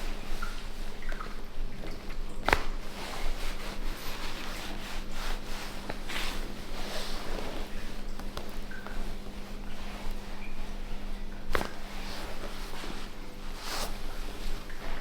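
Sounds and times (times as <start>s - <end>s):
hands rubbing on skin and clothing: 0.0s - 15.0s.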